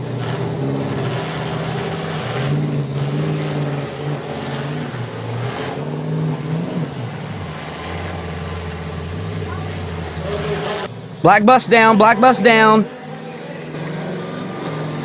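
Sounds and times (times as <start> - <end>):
bus engines revving: 0.0 - 15.0.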